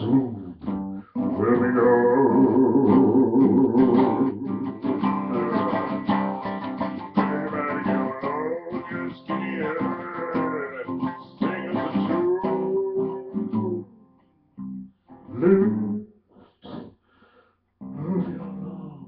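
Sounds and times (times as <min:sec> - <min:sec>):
acoustic guitar plucking and strumming: 0:00.0 - 0:15.9.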